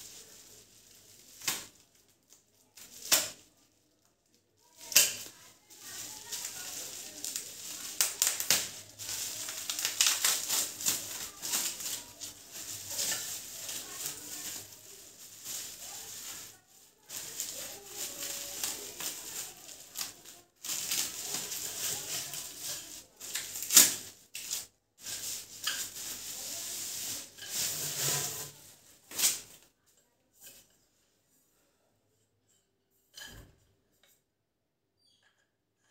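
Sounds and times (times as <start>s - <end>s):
plastic wrap crinkling and tearing: 0.0s - 29.7s.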